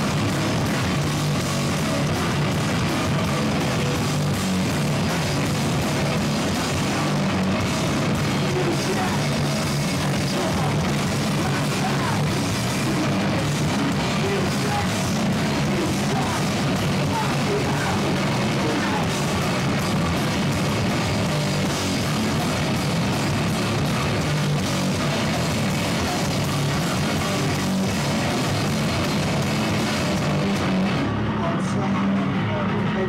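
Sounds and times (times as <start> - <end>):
metal band playing live: 0.0 - 33.0.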